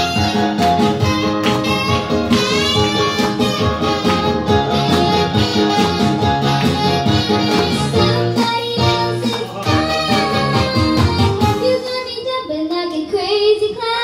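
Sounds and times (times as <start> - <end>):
instrumental guitar music: 0.0 - 11.8.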